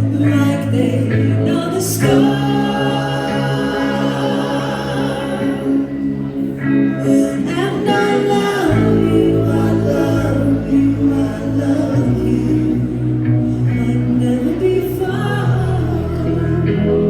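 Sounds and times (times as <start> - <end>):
guitar and sustained chords: 0.0 - 17.0
person singing: 0.0 - 17.0
deep bass note: 1.4 - 17.0.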